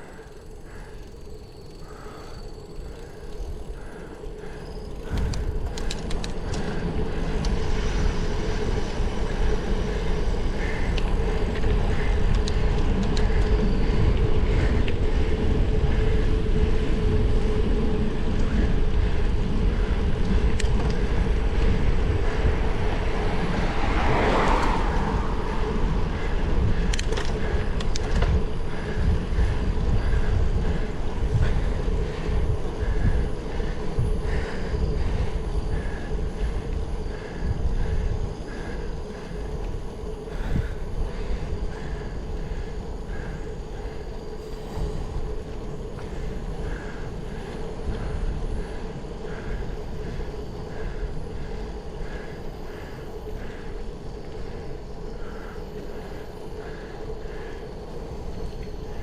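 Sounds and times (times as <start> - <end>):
steady hum: 0.0 - 59.0
wind rumbling on microphone: 0.0 - 59.0
rush of noise: 1.8 - 59.0.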